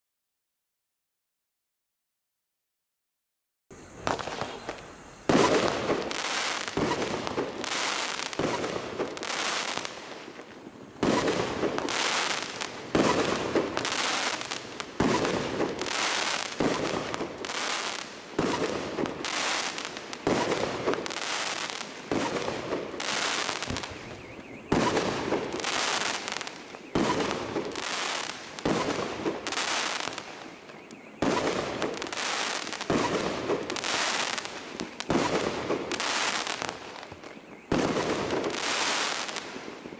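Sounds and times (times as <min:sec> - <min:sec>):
fireworks bangs: 0:03.8 - 0:39.9.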